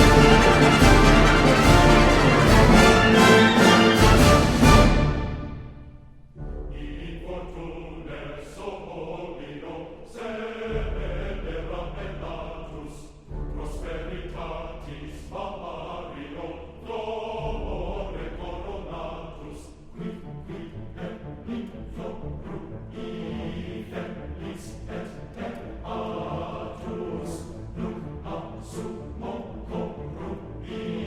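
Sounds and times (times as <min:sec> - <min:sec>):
choral orchestral music: 0:00.0 - 0:31.0.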